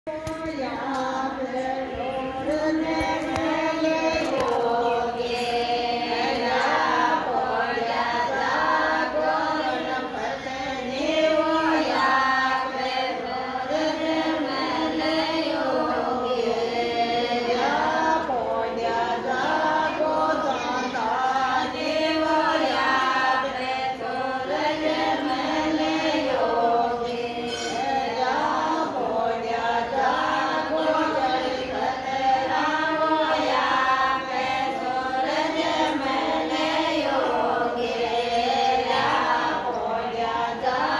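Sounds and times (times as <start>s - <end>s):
women singing in unison: 0.1s - 40.9s.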